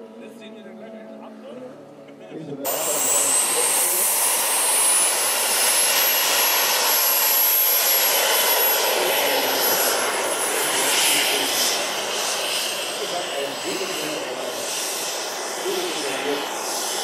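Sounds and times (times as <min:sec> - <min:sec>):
model jet engines running: 0:02.6 - 0:17.0.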